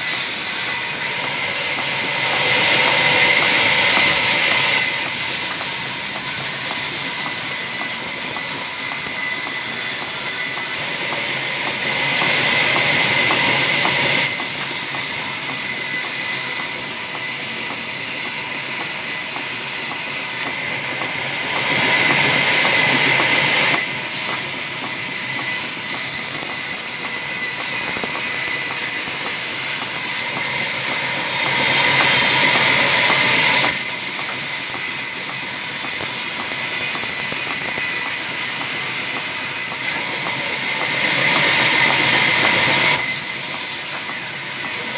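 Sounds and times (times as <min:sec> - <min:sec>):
sawmill saw whining: 0:00.0 - 0:44.9.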